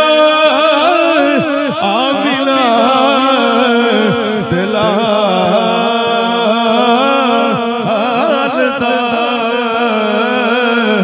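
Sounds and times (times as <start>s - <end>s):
men chanting together: 0.0s - 11.0s.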